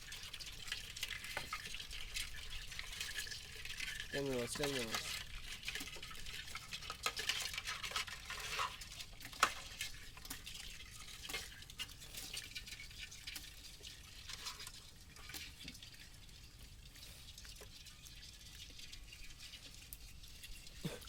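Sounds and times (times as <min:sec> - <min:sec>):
wet pattering of fish: 0:00.0 - 0:21.0.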